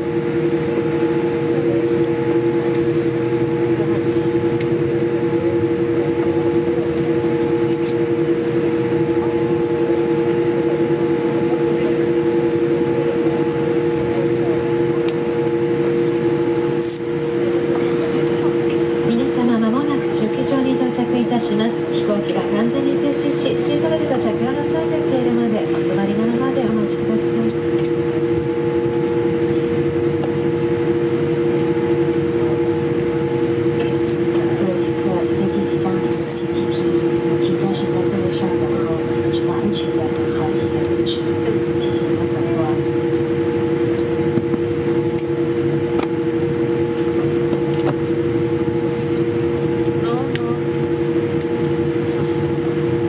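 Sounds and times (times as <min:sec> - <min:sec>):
airplane cabin hum: 0:00.0 - 0:53.0.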